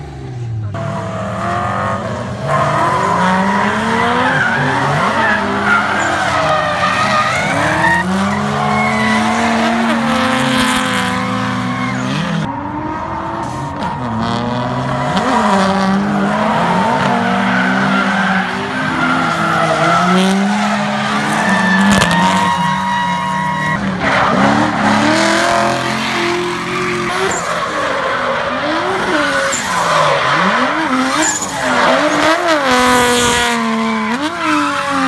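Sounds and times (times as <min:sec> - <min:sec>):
car engines revving: 0:00.0 - 0:35.0
tires screeching: 0:00.0 - 0:35.0.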